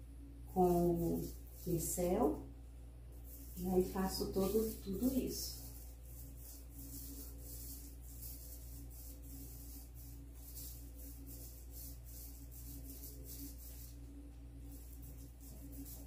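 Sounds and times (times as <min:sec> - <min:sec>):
low hum: 0:00.0 - 0:16.0
paint brush strokes hissing: 0:00.5 - 0:02.4, 0:03.0 - 0:16.0.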